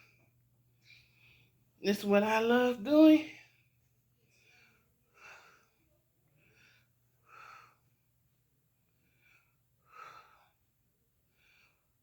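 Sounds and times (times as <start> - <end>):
woman breathing: 0.0 - 1.8, 3.2 - 8.2, 8.8 - 12.0.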